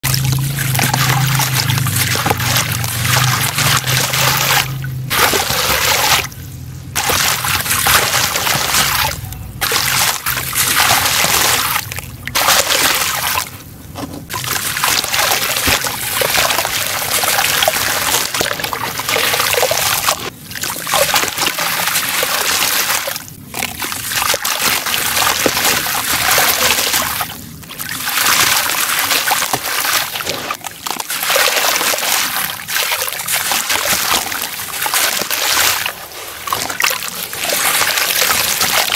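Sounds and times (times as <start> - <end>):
water splashing and sloshing in tub: 0.0 - 38.9.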